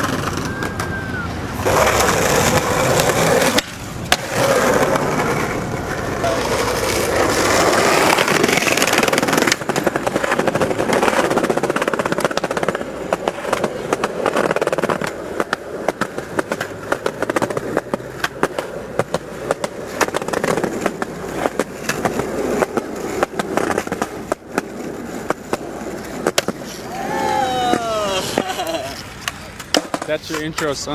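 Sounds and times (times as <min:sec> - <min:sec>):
skateboard clicking over cracks: 0:00.0 - 0:01.0, 0:01.6 - 0:26.9, 0:27.7 - 0:30.9
skateboard wheels rolling: 0:00.0 - 0:30.9.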